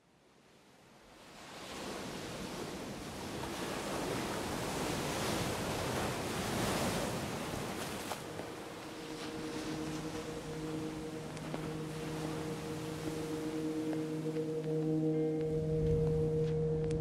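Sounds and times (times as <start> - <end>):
ocean surf on beach: 0.2 - 16.0.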